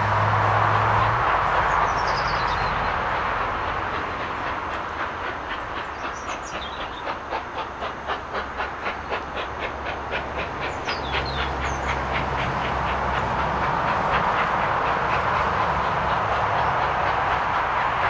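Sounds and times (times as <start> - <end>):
train rumbling past: 0.0 - 18.0
wheels clicking over rail joints: 0.0 - 18.0.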